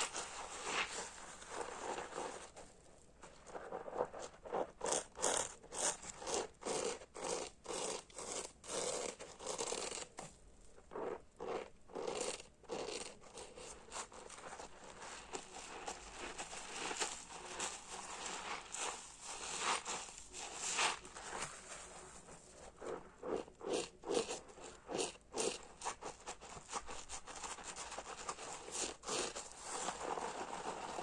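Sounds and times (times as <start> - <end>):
soapy sponge squeezed and crackling: 0.0 - 5.9, 10.7 - 31.0.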